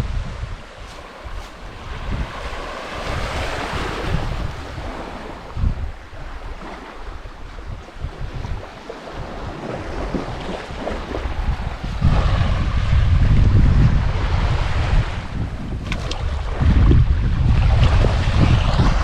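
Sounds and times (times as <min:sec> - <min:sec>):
small waves on shore: 0:00.0 - 0:19.0
wind gusting on microphone: 0:00.0 - 0:19.0.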